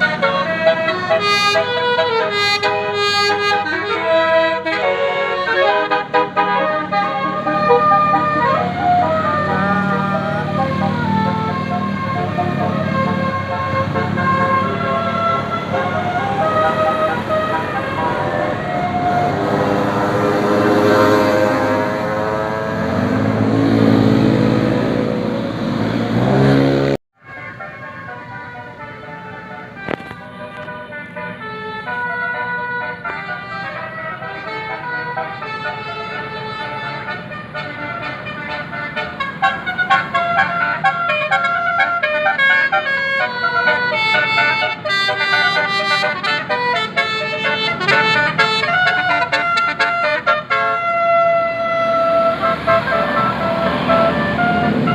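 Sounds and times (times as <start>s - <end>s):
musical air horn melody: 0.0s - 25.4s, 26.6s - 54.9s
bus engine accelerating: 0.0s - 54.9s.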